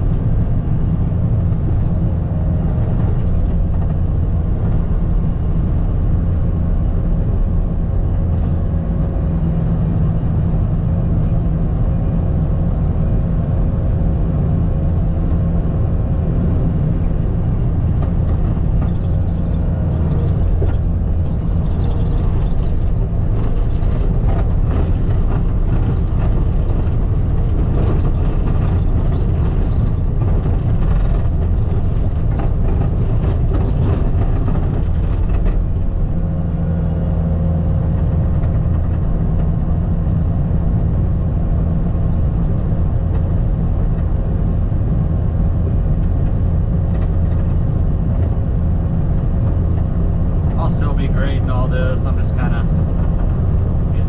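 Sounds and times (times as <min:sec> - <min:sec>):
clatter and rattling: 0:00.0 - 0:07.4, 0:14.1 - 0:54.0
skid steer engine rumbling: 0:00.0 - 0:54.0.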